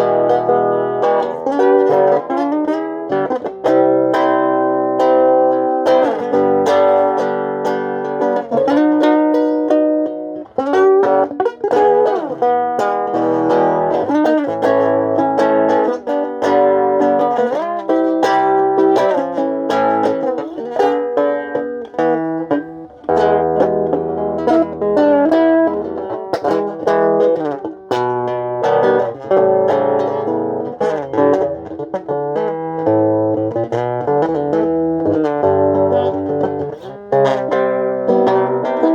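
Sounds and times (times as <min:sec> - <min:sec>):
solo guitar melody: 0:00.0 - 0:38.9.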